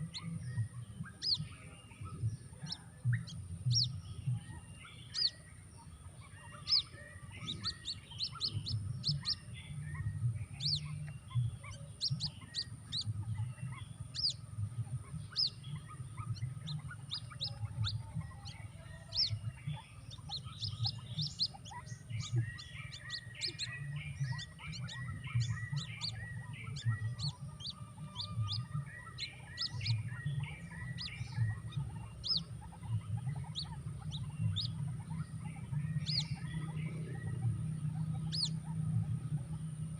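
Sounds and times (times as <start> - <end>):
bird chick peeping: 0.0 - 39.9
steady low hum: 0.0 - 39.9.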